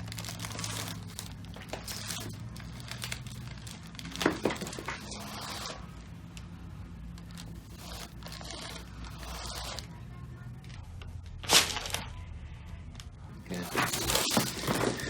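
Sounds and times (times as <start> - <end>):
material rustling and scraping: 0.0 - 12.2, 13.4 - 15.0.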